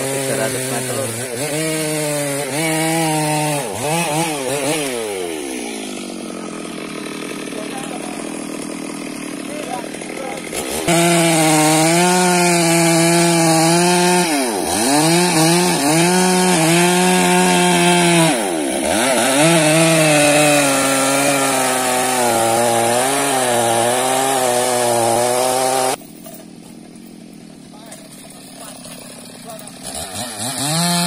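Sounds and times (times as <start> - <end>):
chainsaw running at high revs: 0.0 - 31.0.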